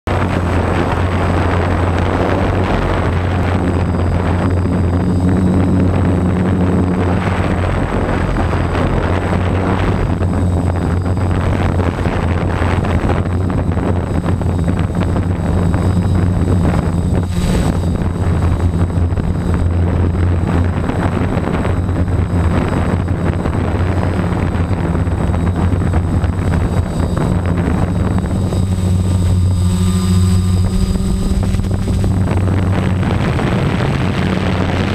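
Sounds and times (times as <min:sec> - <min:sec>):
propeller rushing noise: 0:00.0 - 0:34.9
drone motors humming: 0:00.1 - 0:34.9.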